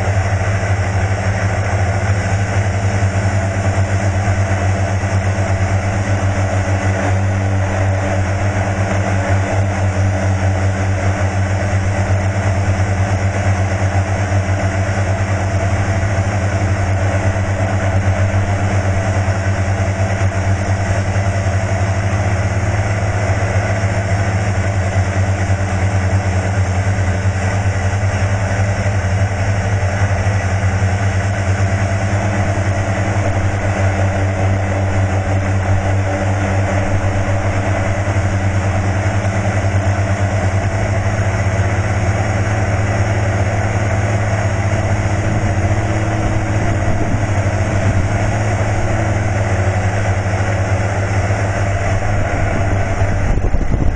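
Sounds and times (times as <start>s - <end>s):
model helicopter rotor hum: 0.0s - 53.9s.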